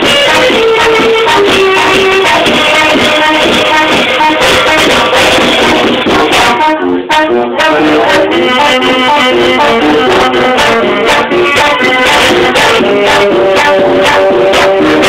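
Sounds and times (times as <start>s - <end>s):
bass drum: 0.0s - 15.0s
brass and saxophone melody: 0.0s - 15.0s
cymbals: 0.0s - 15.0s
snare drum: 0.0s - 15.0s.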